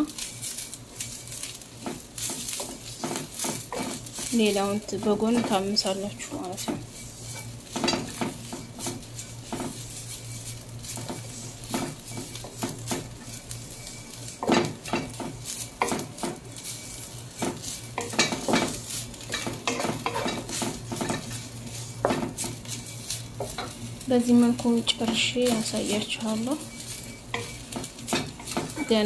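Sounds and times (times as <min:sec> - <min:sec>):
light sizzle: 0:00.0 - 0:29.0
wooden spatula scraping a pan: 0:00.0 - 0:29.0.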